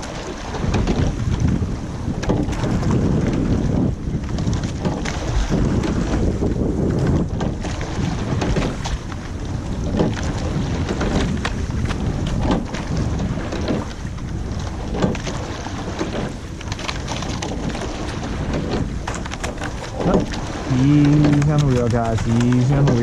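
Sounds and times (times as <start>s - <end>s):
oar stroke knock: 0.0s - 23.0s
water rushing: 0.0s - 23.0s
wind buffeting microphone: 0.0s - 23.0s.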